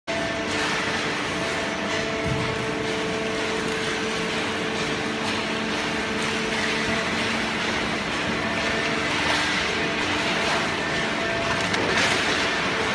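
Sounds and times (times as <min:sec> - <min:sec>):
baler machine hum: 0:00.1 - 0:12.9.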